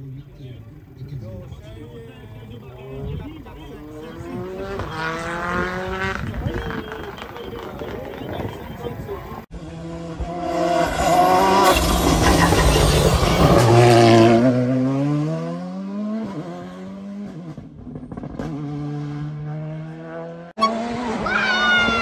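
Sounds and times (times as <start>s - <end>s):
rally car engine revving: 0.8s - 22.0s.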